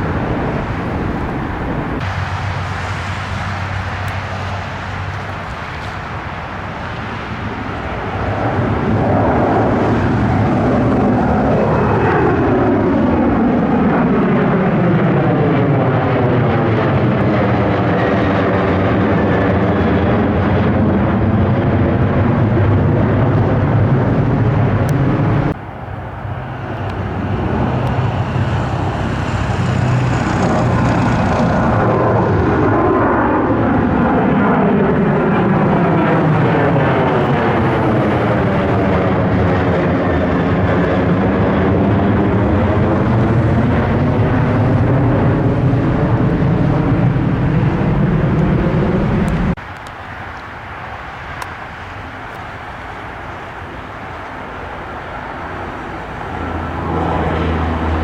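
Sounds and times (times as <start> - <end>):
airplane engine passing by: 0.0 - 58.0.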